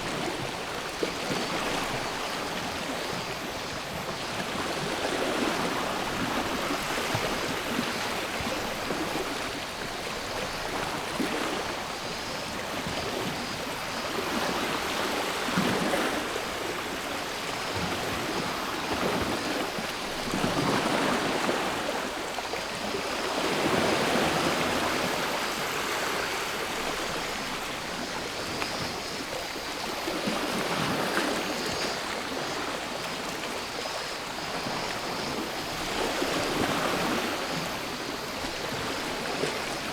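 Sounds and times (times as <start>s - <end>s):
cicadas buzzing: 0.1s - 39.9s.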